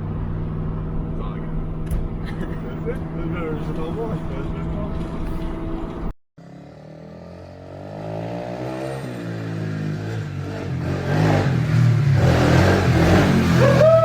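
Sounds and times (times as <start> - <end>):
engine speeding up: 0.0 - 14.0.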